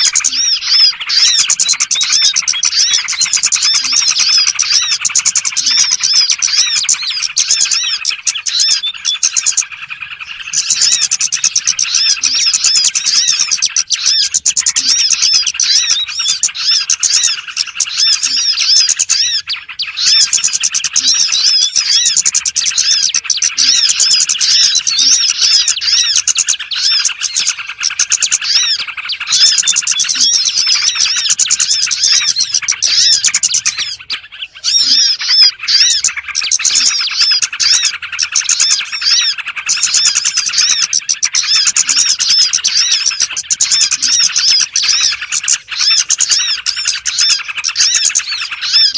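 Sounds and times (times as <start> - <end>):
small birds chirping and twittering: 0.0 - 48.9.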